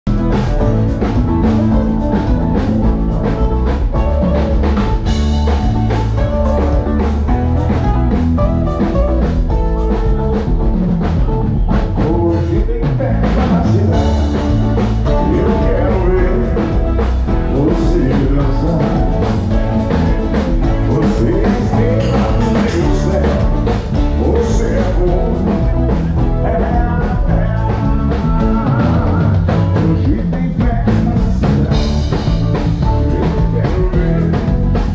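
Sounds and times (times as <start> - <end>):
drum kit: 0.0 - 34.9
electric bass: 0.0 - 34.9
keyboard: 0.0 - 34.9
acoustic guitars: 0.1 - 34.9.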